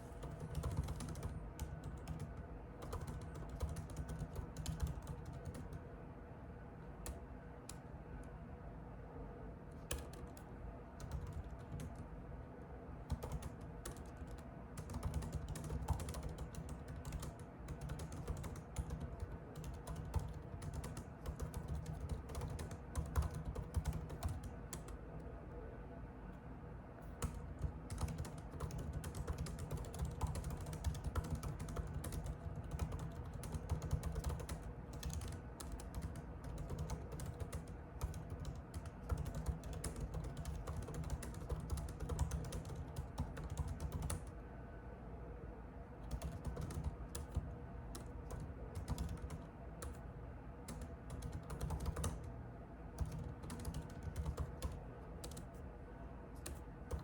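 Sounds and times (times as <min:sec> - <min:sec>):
computer keyboard typing: 0:00.0 - 0:05.8, 0:09.8 - 0:12.1, 0:13.1 - 0:25.3, 0:27.0 - 0:44.4, 0:46.0 - 0:50.0, 0:50.6 - 0:52.4, 0:53.0 - 0:55.6, 0:56.4 - 0:57.0
low steady hum: 0:00.0 - 0:57.0.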